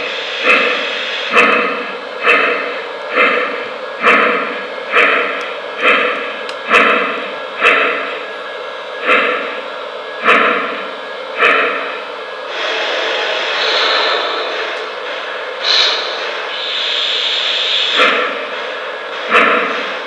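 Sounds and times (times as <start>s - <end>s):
model steam locomotive chuffing: 0.0s - 20.0s.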